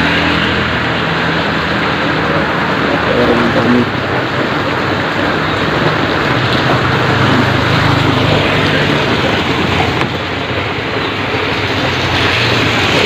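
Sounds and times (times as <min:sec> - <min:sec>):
heavy rain pouring: 0:00.0 - 0:13.0
vehicle engine running: 0:00.0 - 0:13.0.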